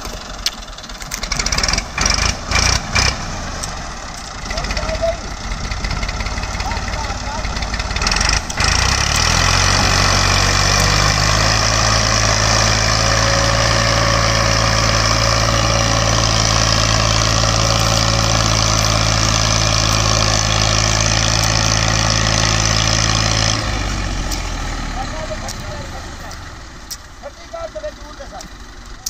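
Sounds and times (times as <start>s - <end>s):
tractor diesel engine running hard: 0.0s - 29.0s.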